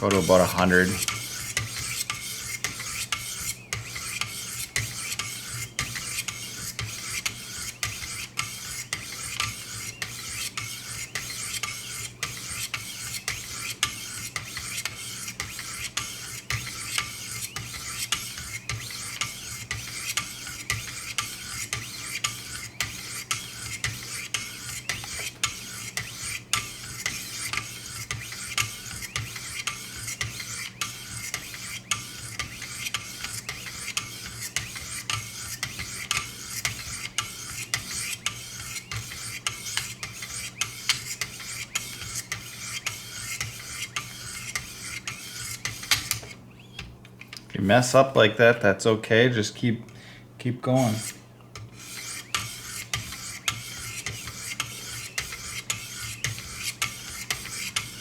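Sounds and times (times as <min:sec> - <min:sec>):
sharpening stone scraping knife blade: 0:00.1 - 0:46.3, 0:50.9 - 0:58.0.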